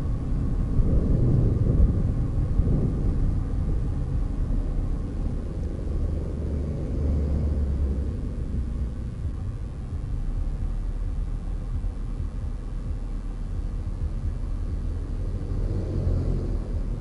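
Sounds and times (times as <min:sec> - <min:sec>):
vehicle driving along a road: 0:00.0 - 0:17.0.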